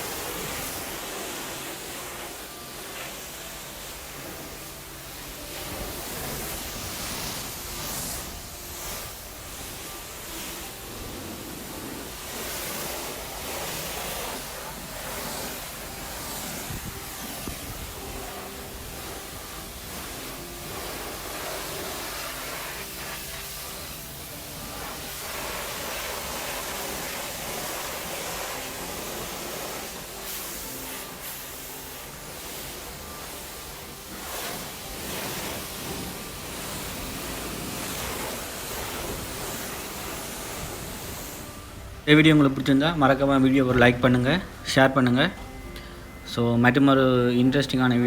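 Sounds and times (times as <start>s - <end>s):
high-pressure water spraying: 0.0s - 45.6s.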